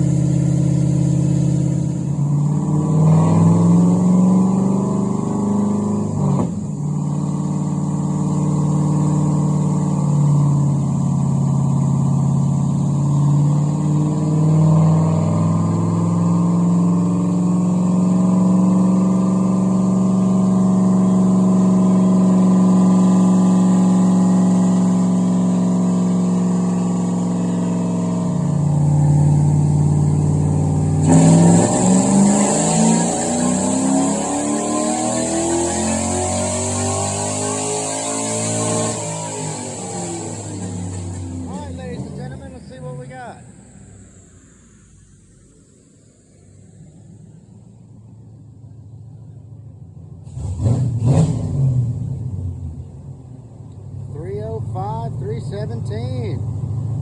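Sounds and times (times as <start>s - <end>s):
car engine running under load: 0.0s - 57.0s.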